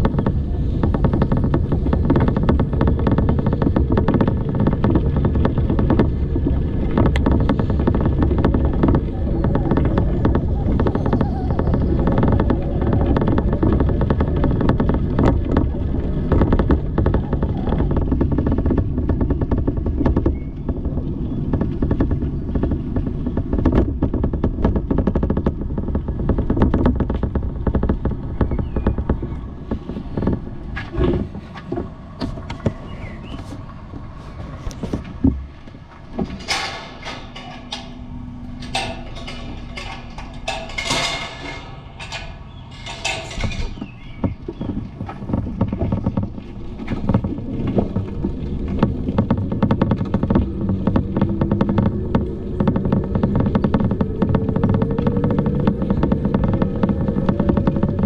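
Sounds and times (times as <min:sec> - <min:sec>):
bicycle tyres rumbling on road: 0:00.0 - 0:58.0
knocks: 0:00.0 - 0:58.0
small rattles and clicks: 0:00.0 - 0:58.0.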